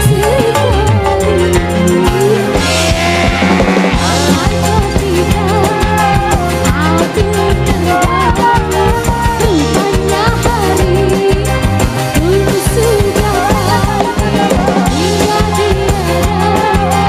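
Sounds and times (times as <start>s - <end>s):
live band playing: 0.0s - 17.0s
woman singing through pa: 0.0s - 17.0s.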